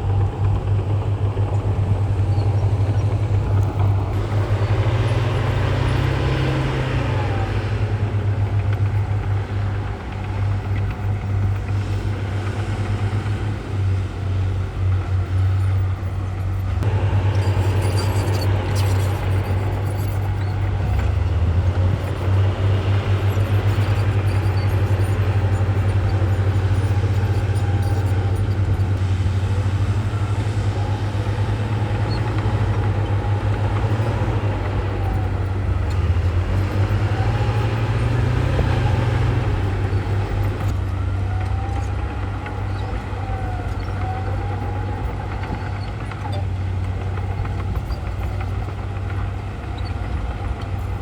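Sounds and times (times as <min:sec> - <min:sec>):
heavy machinery engine drone: 0:00.0 - 0:51.0.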